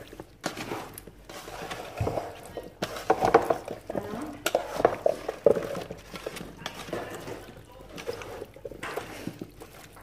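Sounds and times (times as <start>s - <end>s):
food mixed by hand in metal pot: 0.0s - 10.0s.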